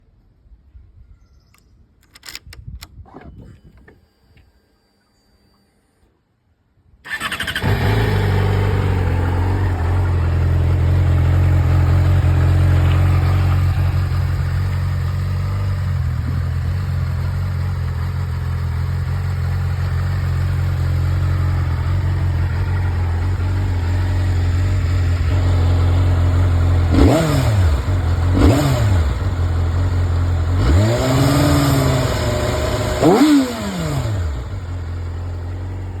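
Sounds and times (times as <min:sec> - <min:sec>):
motorcycle engine idling and revving: 0:07.1 - 0:36.0.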